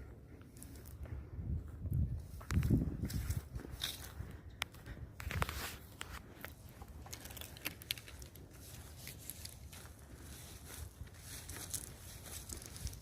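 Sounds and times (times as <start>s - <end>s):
faint crackling and rustling: 2.2s - 13.0s.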